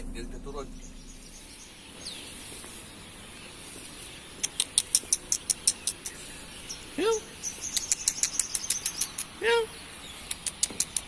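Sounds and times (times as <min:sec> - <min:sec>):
sharp high bird chirps: 0:00.0 - 0:10.7.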